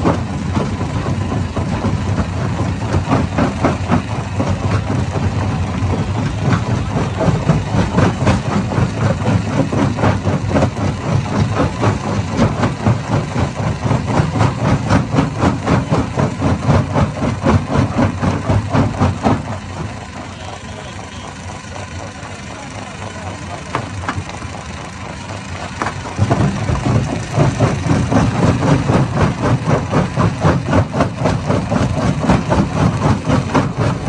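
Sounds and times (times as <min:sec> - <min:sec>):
low machine drone: 0:00.0 - 0:34.0.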